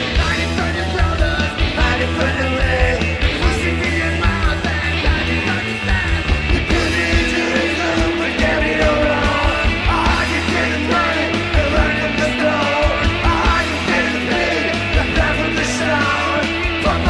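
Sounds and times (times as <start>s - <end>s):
bass guitar: 0.0s - 17.0s
drums: 0.0s - 17.0s
electric guitar: 0.0s - 17.0s
man singing: 0.0s - 17.0s.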